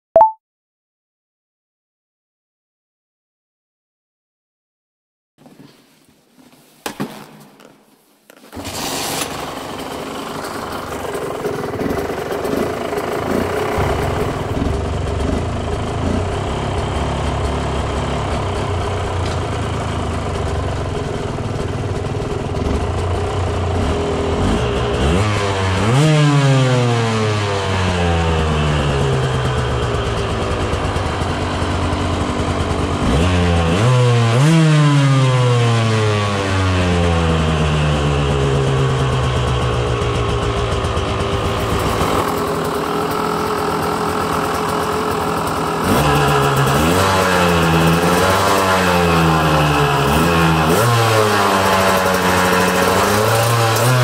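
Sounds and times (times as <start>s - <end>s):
dirt bike engine revving: 8.5s - 54.0s.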